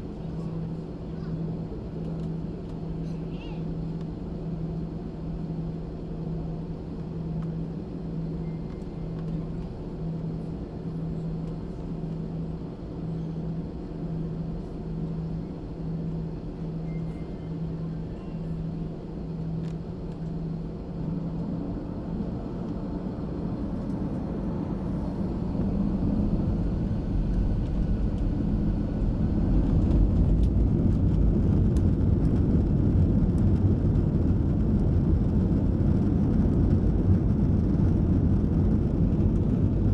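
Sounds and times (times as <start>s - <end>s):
deep engine rumble: 0.0s - 39.9s
jet engines heard from cabin: 0.0s - 39.9s.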